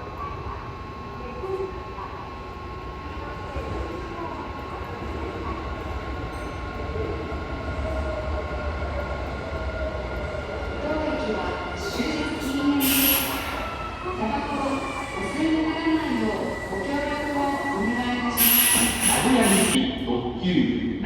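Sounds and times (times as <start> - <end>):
electric train rumble: 0.0 - 19.8
faint voices: 0.0 - 19.8.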